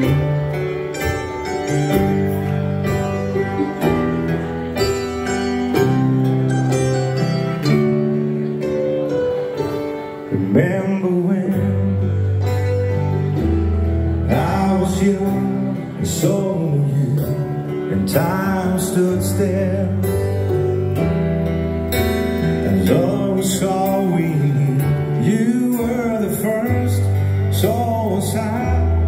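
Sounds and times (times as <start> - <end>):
electric bass notes: 0.0 - 29.0
guitar: 0.0 - 29.0
piano chords: 0.0 - 29.0.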